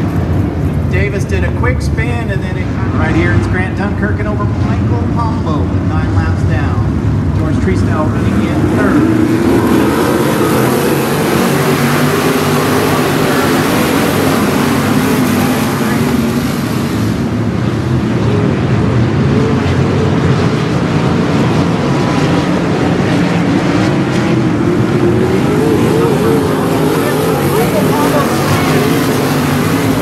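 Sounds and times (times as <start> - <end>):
race car engines roaring: 0.0 - 30.0.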